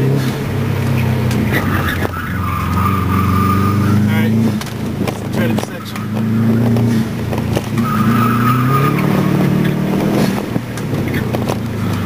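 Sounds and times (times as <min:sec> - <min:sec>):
car engine revving: 0:00.0 - 0:12.0
tyre squeal: 0:00.9 - 0:04.7, 0:05.3 - 0:12.0.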